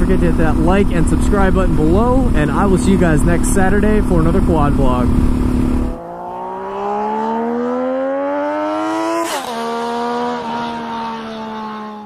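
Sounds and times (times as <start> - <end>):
quad engine accelerating: 0.0 - 12.0.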